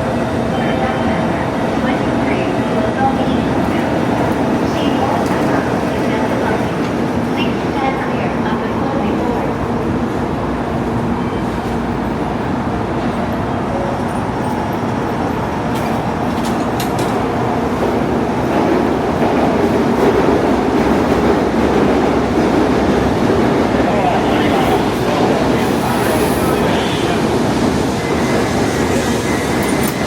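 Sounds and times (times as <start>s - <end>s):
train rail rumble: 0.0s - 30.0s.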